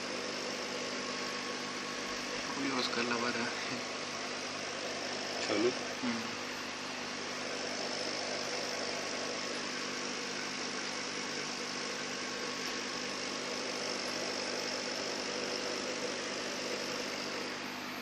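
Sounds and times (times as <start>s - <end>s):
aquarium pump and filter humming: 0.0s - 18.0s.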